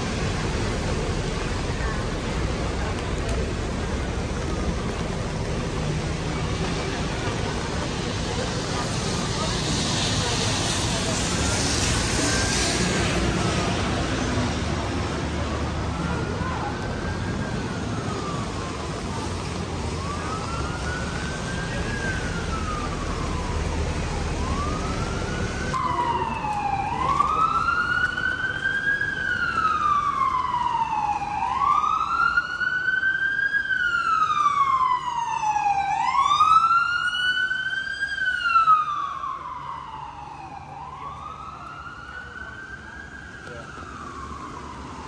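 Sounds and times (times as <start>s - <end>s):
emergency vehicle siren wailing: 0.0s - 45.0s.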